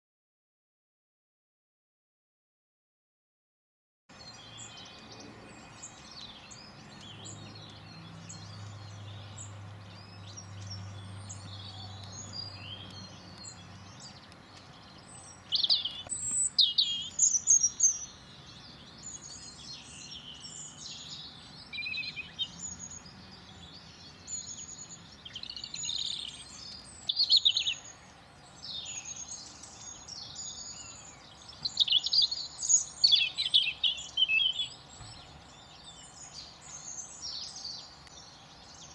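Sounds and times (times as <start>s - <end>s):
small birds chirping: 4.1s - 38.9s.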